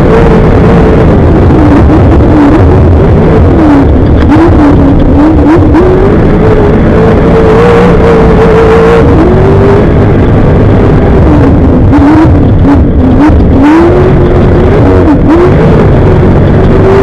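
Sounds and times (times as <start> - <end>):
off-road vehicle engine running hard: 0.0 - 17.0.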